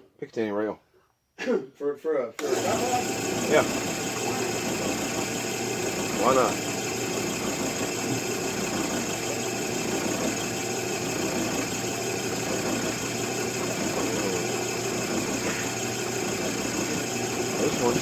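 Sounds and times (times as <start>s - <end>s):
small motor humming with whine: 2.4s - 18.0s.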